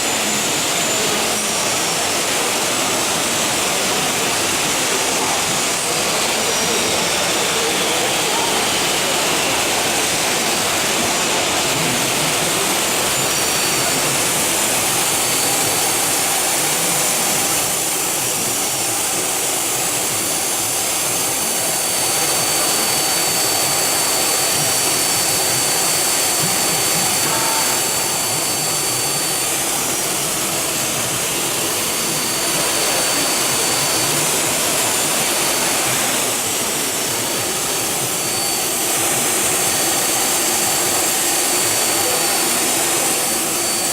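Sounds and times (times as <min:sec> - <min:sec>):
machine hiss with high whine: 0:00.0 - 0:43.9.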